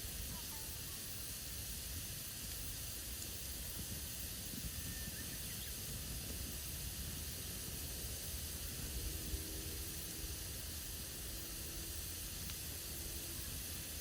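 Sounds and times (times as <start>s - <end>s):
campfire hissing: 0.0s - 14.0s.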